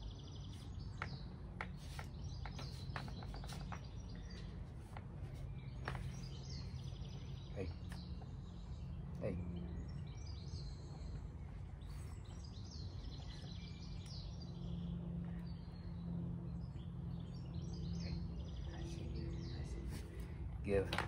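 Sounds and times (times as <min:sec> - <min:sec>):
songbirds chirping and singing: 0:00.0 - 0:21.0
steady low hum: 0:00.0 - 0:21.0.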